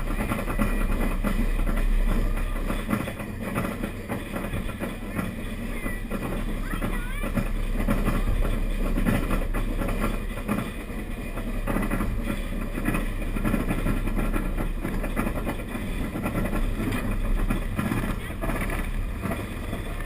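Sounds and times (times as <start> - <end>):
roller coaster wheels rumbling on rail: 0.0 - 20.0.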